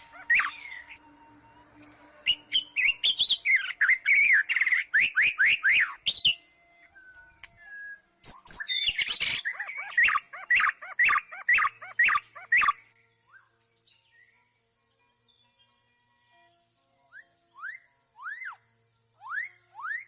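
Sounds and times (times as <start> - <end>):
bird singing whistled phrases: 0.0 - 13.5, 17.1 - 20.0.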